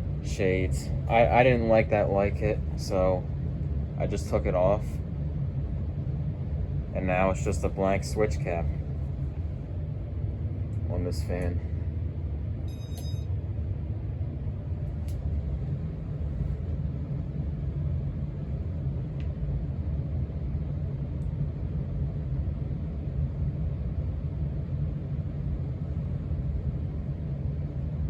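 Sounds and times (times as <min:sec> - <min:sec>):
ceiling fan running: 0:00.0 - 0:28.0.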